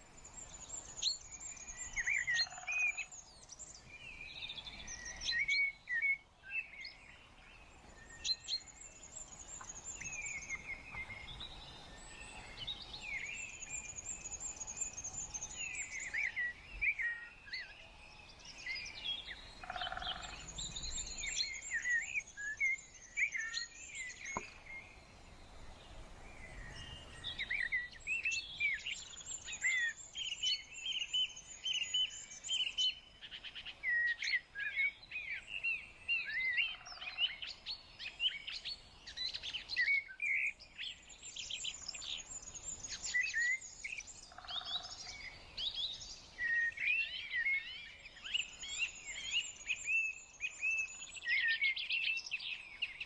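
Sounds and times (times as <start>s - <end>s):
small birds chirping: 6.6s - 53.0s.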